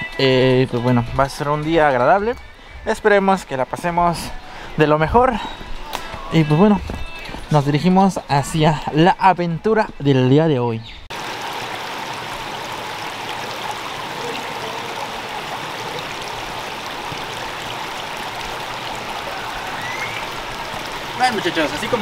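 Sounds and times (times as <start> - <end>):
creek water flowing: 0.0 - 9.8, 11.1 - 22.0.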